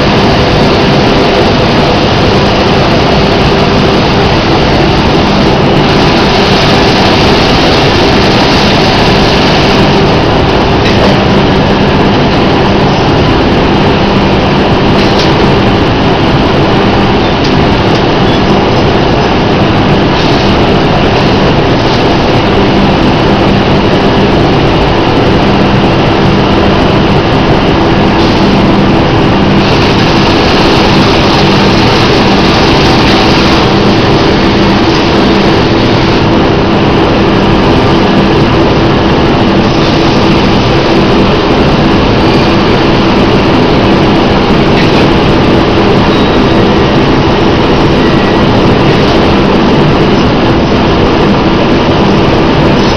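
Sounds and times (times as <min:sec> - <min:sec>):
industrial machinery droning: 0:00.0 - 0:52.9.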